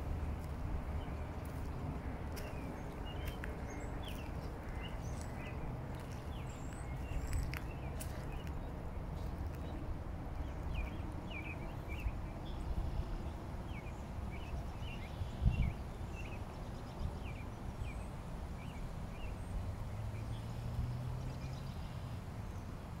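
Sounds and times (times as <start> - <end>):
small birds chirping: 0.4 - 22.7.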